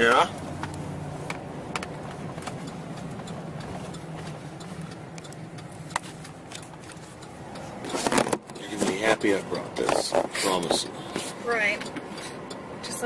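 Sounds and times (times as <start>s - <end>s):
engine and road hum in cab: 0.0s - 13.0s
light ticks and clicks: 0.2s - 10.9s.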